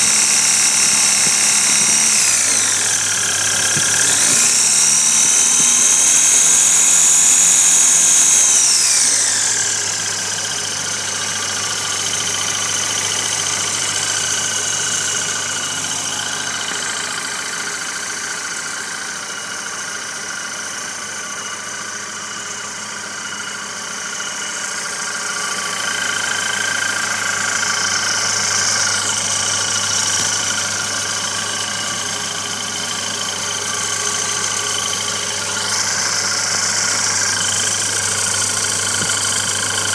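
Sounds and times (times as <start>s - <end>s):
compressor whine: 0.0s - 39.9s
engine running: 0.0s - 39.9s.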